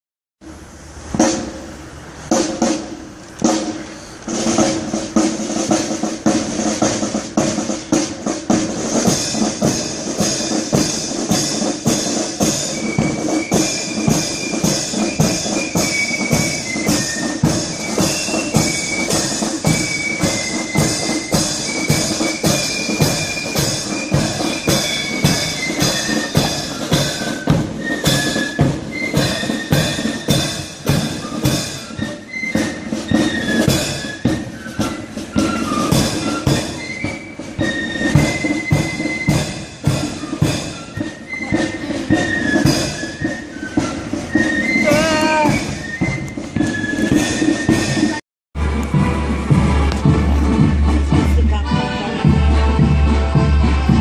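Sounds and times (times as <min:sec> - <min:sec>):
marching drums: 0:00.4 - 0:54.0
flutes playing a melody: 0:04.3 - 0:54.0.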